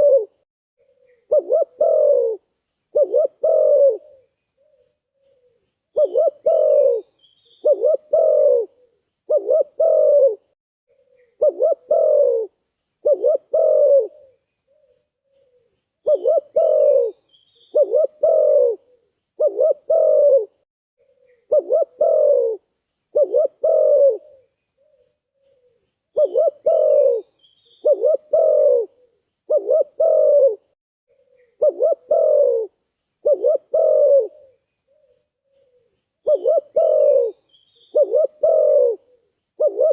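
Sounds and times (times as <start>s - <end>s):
dove cooing: 0.0s - 39.9s
small bird chirping: 0.8s - 39.9s.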